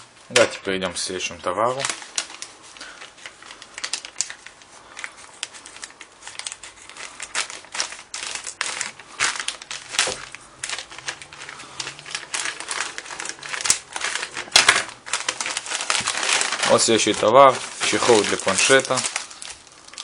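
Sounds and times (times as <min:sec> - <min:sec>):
plastic packaging crinkling: 0:01.2 - 0:20.0.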